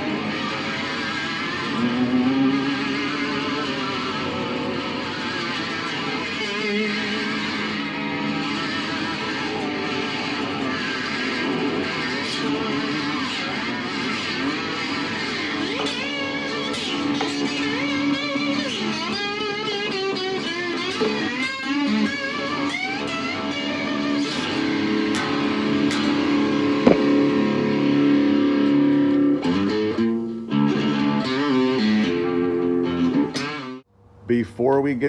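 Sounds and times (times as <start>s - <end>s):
electric slide guitar: 0.0s - 33.9s.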